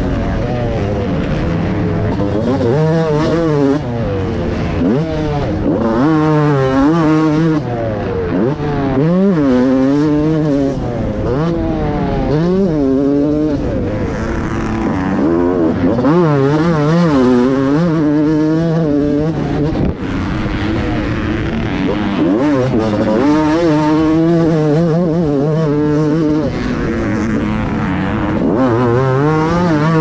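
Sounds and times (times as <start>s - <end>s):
motocross bike engine revving: 0.0s - 30.0s
wind noise: 0.0s - 30.0s.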